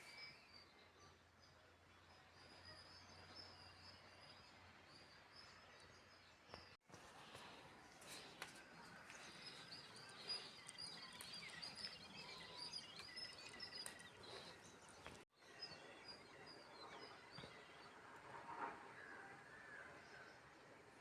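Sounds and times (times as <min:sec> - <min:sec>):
small birds chirping: 0:00.0 - 0:18.1.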